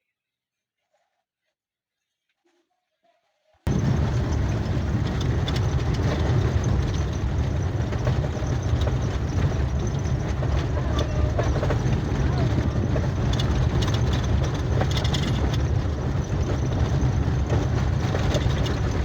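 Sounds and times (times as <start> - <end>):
engine low rumble: 3.7 - 19.0.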